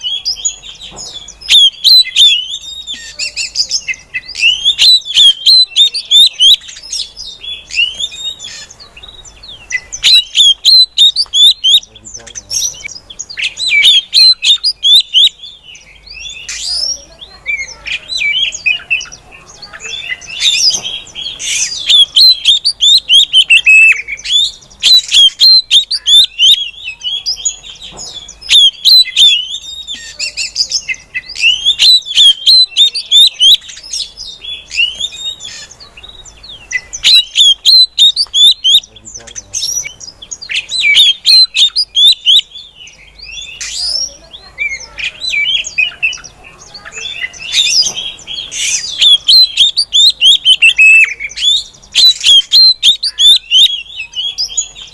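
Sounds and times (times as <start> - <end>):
bird chirping and twittering: 0.0 - 54.9.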